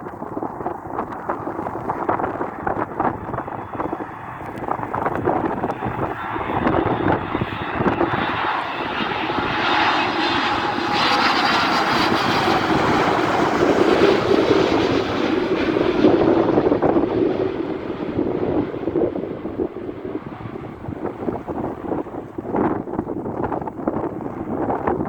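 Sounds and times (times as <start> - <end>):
loud jet engines: 0.2 - 25.0.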